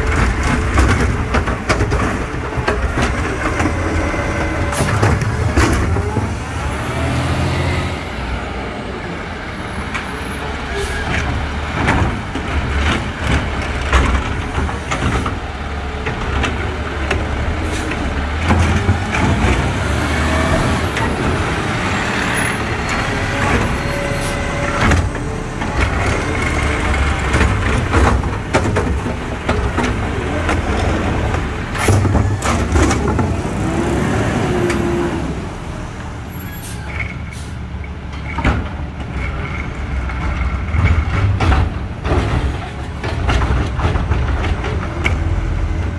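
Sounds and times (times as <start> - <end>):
trash carts banging and clanking: 0.0 - 45.9
truck engine drone: 0.0 - 45.9.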